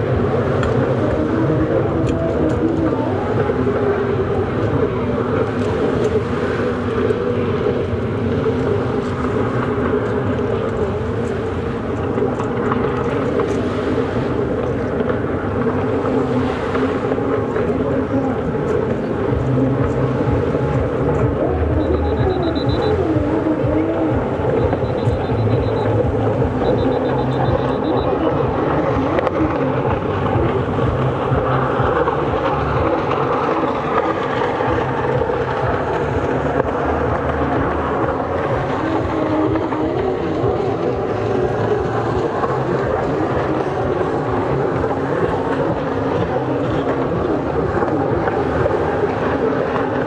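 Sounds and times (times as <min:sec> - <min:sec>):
jet ski engines at speed: 0:00.0 - 0:50.0.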